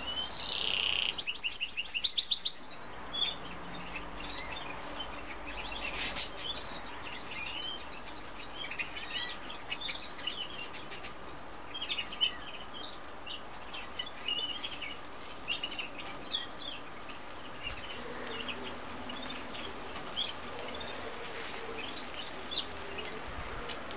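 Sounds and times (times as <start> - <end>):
canary chirping and trilling: 0.0 - 20.9
steady background hiss: 0.0 - 23.9.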